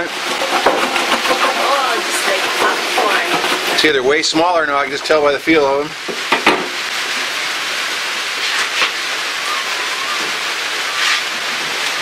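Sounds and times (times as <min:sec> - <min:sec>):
rain on a tin roof: 0:00.0 - 0:12.0.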